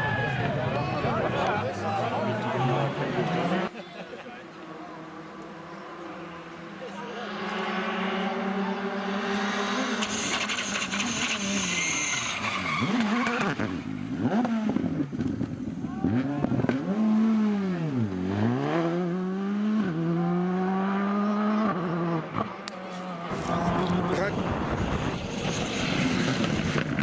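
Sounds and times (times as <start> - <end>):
car engine revving: 4.7 - 27.0.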